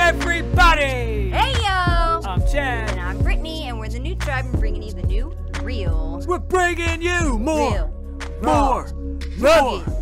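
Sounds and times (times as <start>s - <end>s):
steady beat with deep bass: 0.0s - 10.0s.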